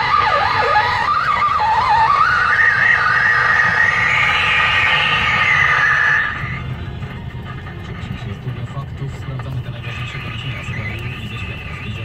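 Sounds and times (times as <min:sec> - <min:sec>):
truck rumble: 0:00.0 - 0:12.0.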